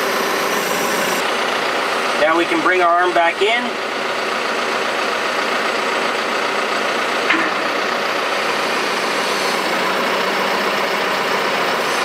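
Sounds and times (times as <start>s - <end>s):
diesel engine running: 0.0s - 12.0s
hydraulics whining: 0.0s - 12.0s.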